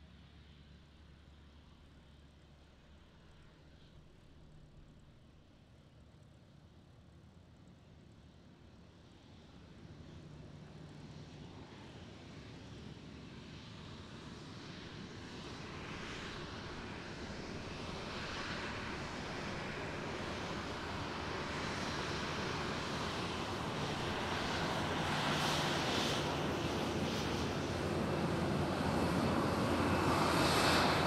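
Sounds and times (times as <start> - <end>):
airplane engine approaching: 0.0 - 31.0.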